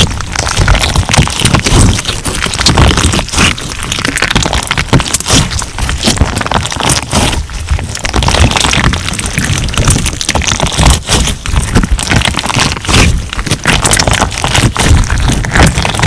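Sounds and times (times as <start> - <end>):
crunchy slime crackling: 0.0 - 16.0.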